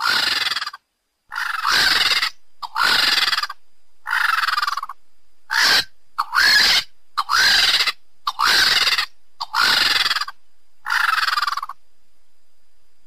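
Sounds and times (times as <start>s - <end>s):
vultures hissing: 0.0s - 11.8s.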